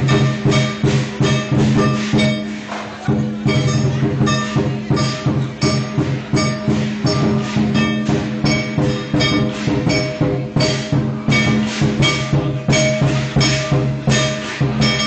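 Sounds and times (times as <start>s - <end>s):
big drum beating: 0.0s - 15.0s
crash cymbals: 0.0s - 15.0s
gong ringing: 0.0s - 15.0s.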